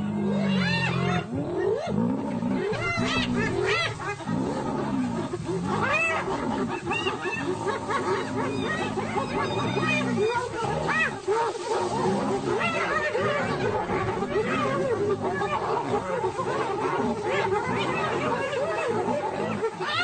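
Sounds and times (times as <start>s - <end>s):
deep lion growls: 0.0s - 20.0s
hyenas calling: 0.0s - 20.0s.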